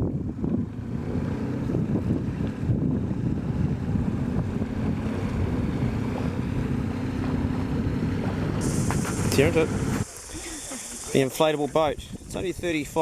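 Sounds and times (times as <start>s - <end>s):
wind buffeting microphone: 0.0s - 10.1s, 11.7s - 13.0s
small boat motor running: 0.0s - 11.2s
water noise: 0.0s - 13.0s.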